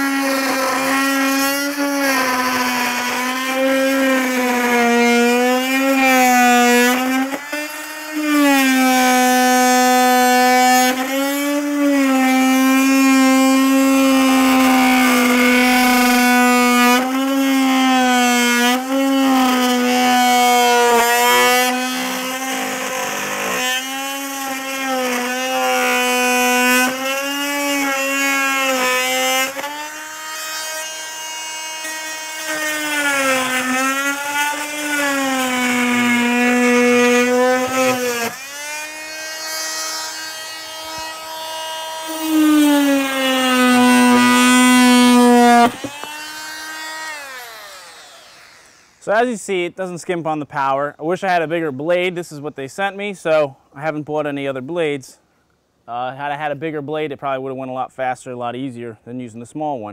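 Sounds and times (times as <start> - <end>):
power tool winding down: 0.0 - 49.1
oscillating multi-tool cutting wood: 0.0 - 50.1.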